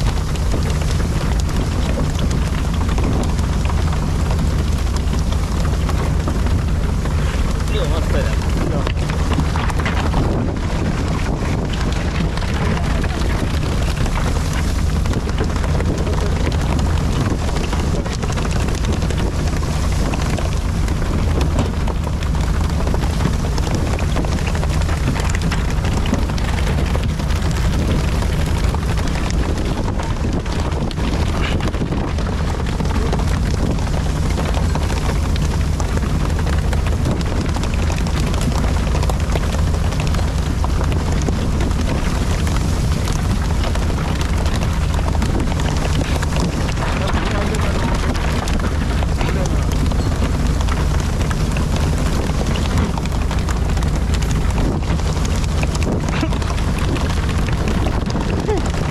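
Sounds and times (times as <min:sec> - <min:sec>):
boat engine humming: 0:00.0 - 0:58.9
water splashing: 0:00.0 - 0:58.9
wind on microphone: 0:00.0 - 0:58.9.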